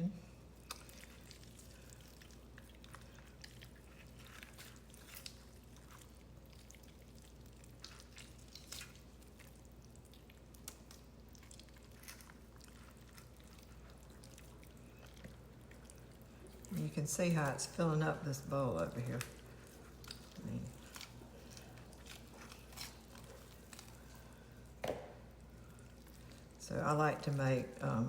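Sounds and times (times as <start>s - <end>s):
wet squishing and tearing of chicken: 0.2s - 27.7s.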